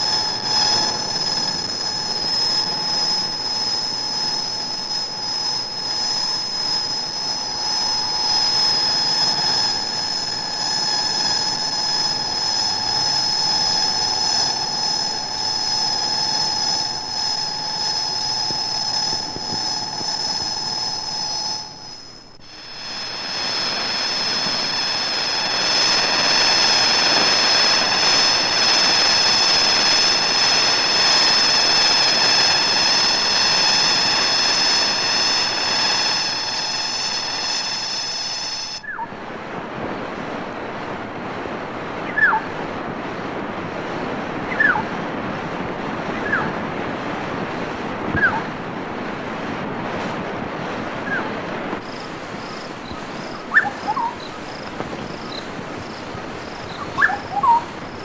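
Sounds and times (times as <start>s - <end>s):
cicadas droning: 0.0s - 39.2s, 41.7s - 49.1s, 50.8s - 58.0s.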